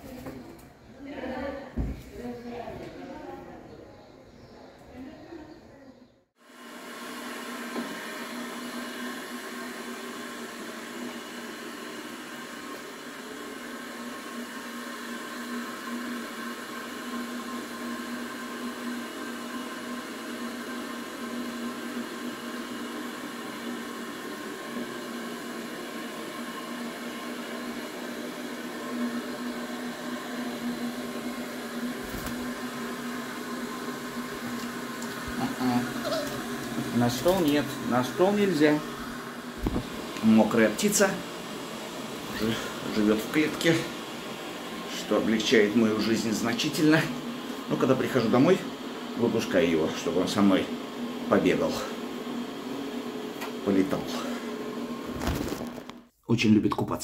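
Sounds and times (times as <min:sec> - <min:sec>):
electric motor humming: 0:06.6 - 0:55.6.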